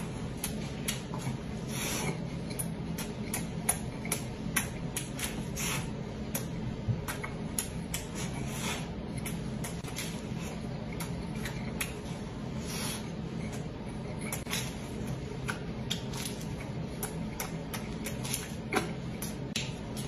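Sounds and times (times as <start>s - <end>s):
crunching and chewing pastry: 0.0s - 20.0s.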